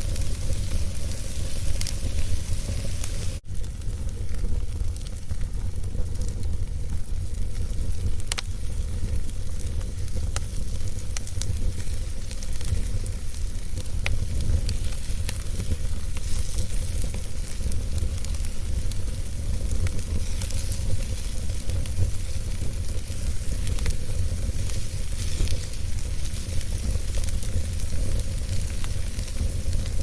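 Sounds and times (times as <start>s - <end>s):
logs crackling and popping: 0.0s - 30.0s
low rumble of flames: 0.0s - 30.0s.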